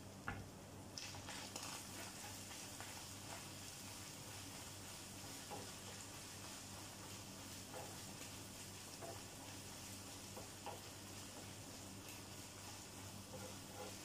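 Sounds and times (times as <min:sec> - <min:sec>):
meat sizzling in a frying pan: 0:01.0 - 0:14.0
spatula scraping and tapping pan: 0:01.0 - 0:14.0.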